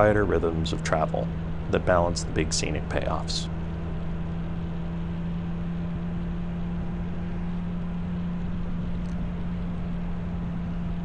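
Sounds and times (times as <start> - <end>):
motorcycle engine drone: 0.0 - 11.0
road and wind noise: 0.0 - 11.0.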